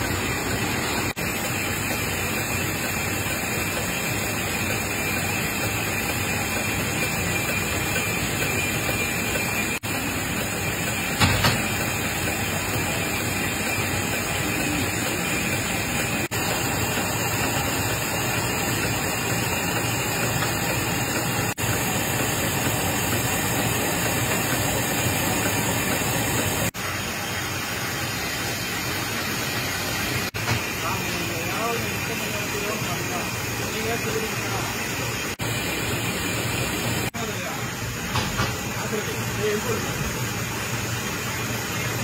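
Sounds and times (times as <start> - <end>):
folding machine running: 0.0 - 42.0.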